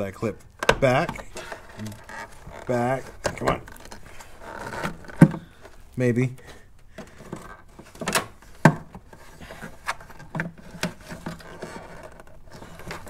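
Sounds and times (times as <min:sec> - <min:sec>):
plastic rubbing: 0:00.2 - 0:13.0.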